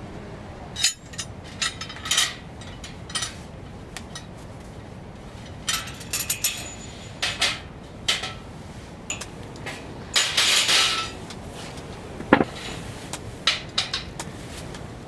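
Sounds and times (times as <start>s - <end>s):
objects clinking and knocking: 0.8s - 8.5s, 9.1s - 11.4s, 12.2s - 14.3s
scraping rustle: 0.8s - 15.0s.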